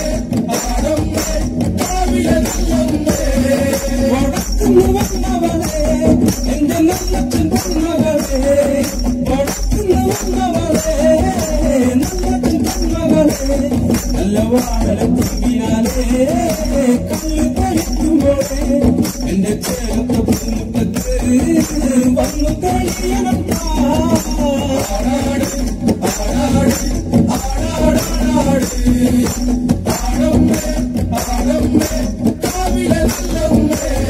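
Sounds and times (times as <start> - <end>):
percussion beat: 0.0 - 34.0
person singing: 0.0 - 34.0.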